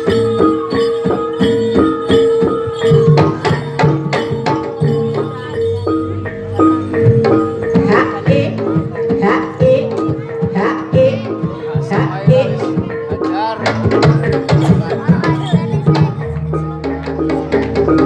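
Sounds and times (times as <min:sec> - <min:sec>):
gamelan metal keys struck: 0:00.0 - 0:18.0
hand drums: 0:00.0 - 0:18.0.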